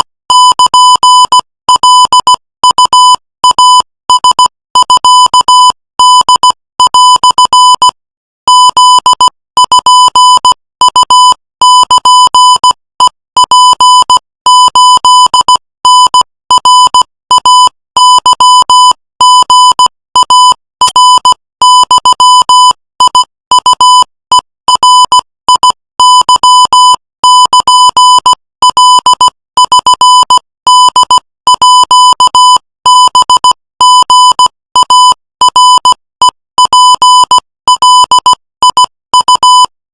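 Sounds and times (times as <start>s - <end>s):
morse code tone: 0.0s - 39.8s.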